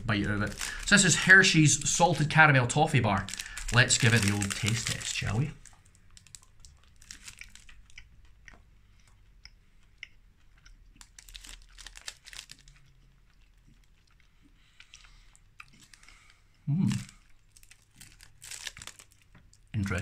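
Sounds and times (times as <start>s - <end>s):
chewing crunchy toffee: 3.2s - 20.0s.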